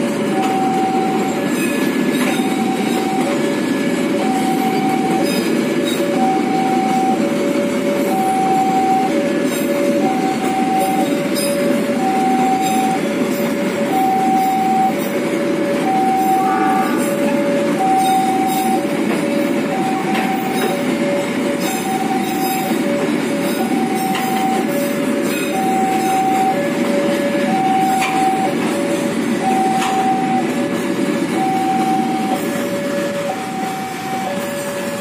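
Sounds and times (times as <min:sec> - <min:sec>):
train wheels rumbling on rail: 0:00.0 - 0:35.0
two-tone electronic warning signal: 0:00.1 - 0:35.0.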